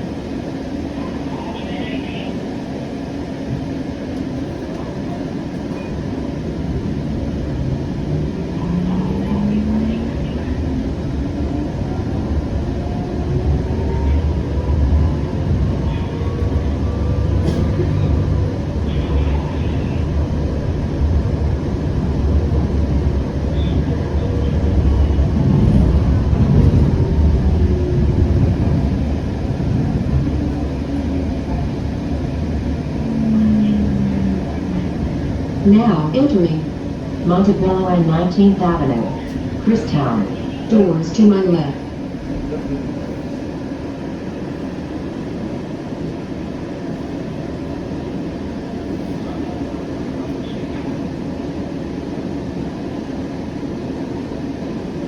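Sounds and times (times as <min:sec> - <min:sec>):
wheels rumbling on track: 0:00.0 - 0:55.0.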